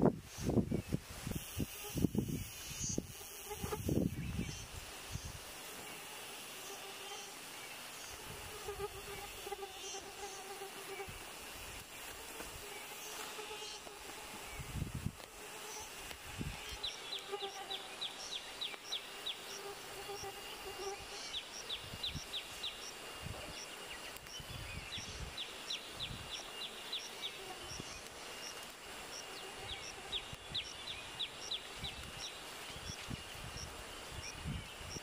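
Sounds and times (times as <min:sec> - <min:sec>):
faint insect drone: 0:00.0 - 0:35.0.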